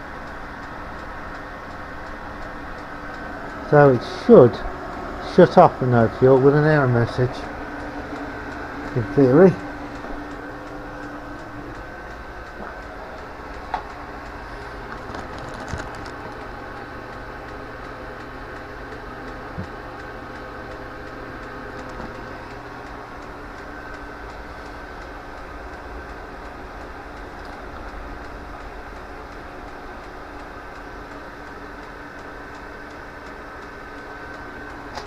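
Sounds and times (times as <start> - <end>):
air heater fan and burner running: 0.0 - 35.0.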